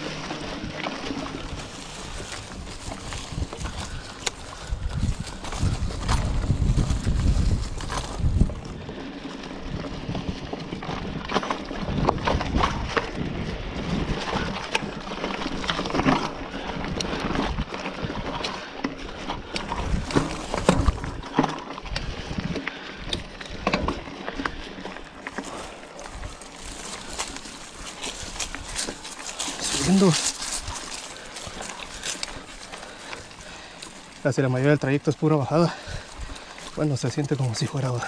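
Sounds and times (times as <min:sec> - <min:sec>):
bike knocking and rattling: 0:00.0 - 0:38.0
tyres crunching through leaves: 0:00.0 - 0:38.0.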